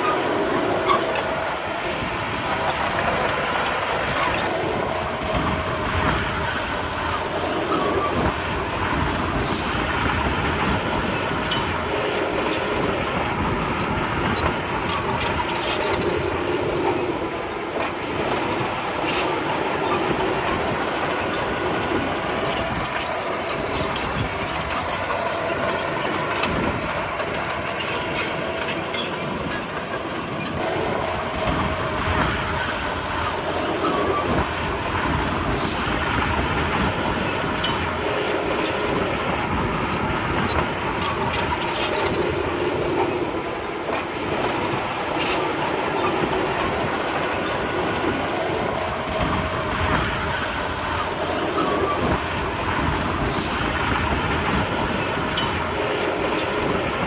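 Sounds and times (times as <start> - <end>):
diesel engine running: 0.0 - 57.0
faint steady squeal: 0.0 - 57.0
steel tracks clattering: 0.0 - 57.0.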